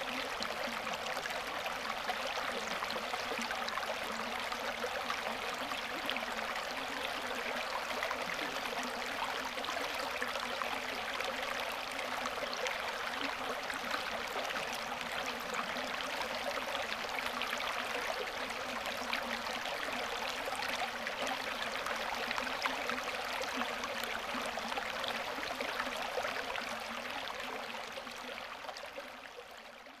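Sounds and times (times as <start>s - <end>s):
stream rippling over rocks: 0.0s - 30.0s.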